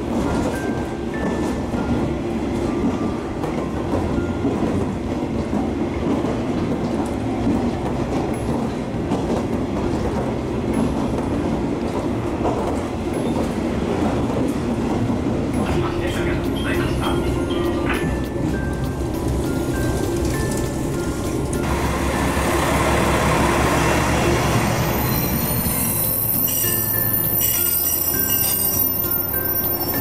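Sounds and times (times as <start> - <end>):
diesel railcar engine and wheels drone: 0.0 - 30.0.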